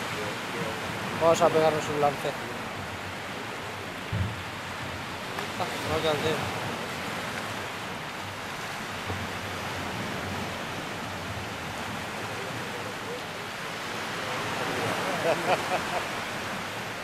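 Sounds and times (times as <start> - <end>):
surf washing on beach: 0.0 - 17.0.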